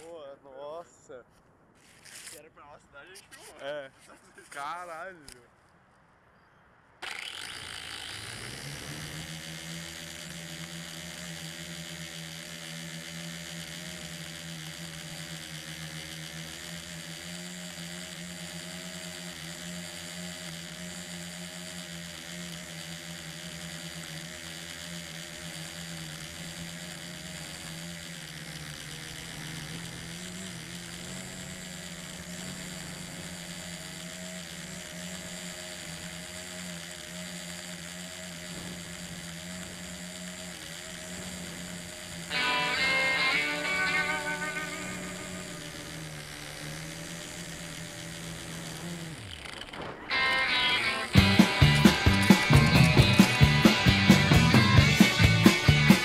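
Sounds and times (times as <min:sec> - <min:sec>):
drone propellers buzzing whine: 0:06.7 - 0:56.0.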